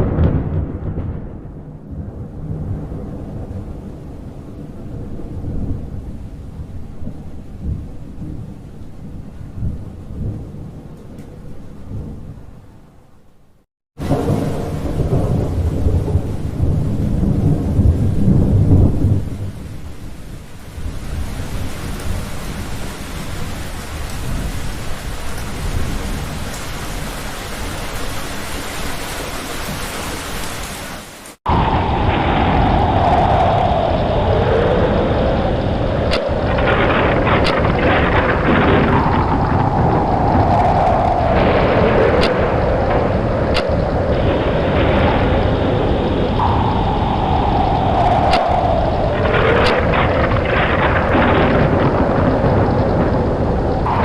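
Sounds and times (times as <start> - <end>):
rolling thunderclap: 0.0 - 12.7, 14.0 - 30.6, 31.4 - 54.0
heavy rain: 0.0 - 54.0.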